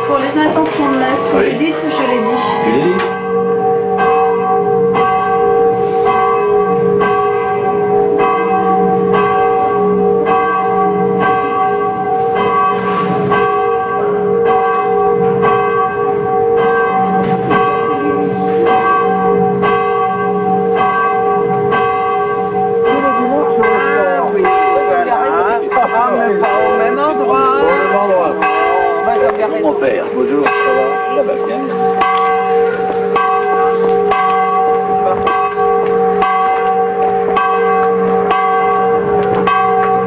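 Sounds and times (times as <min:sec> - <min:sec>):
church bells pealing: 0:00.0 - 0:40.0.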